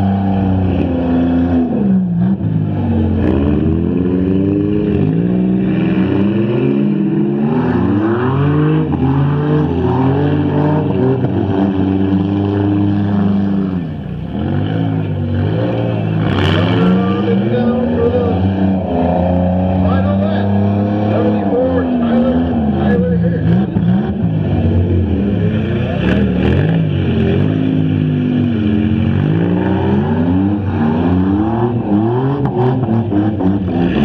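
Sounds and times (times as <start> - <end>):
car engines racing and revving: 0.0 - 34.0.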